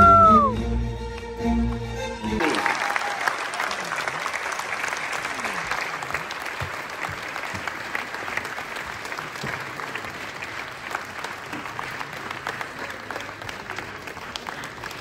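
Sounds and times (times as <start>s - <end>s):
audience applauding: 2.4s - 15.0s.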